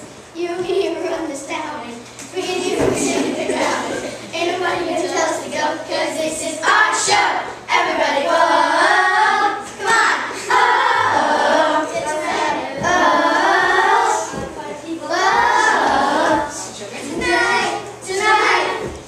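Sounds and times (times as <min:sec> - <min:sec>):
girls singing together: 0:02.2 - 0:19.0.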